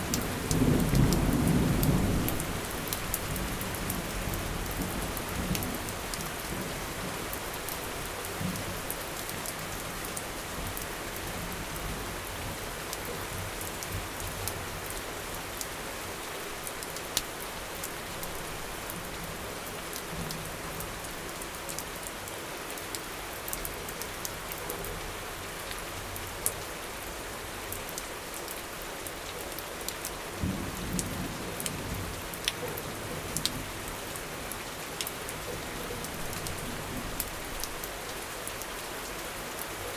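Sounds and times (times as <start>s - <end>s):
rain pouring: 0.0s - 39.9s
raindrops ticking close by: 0.0s - 39.9s.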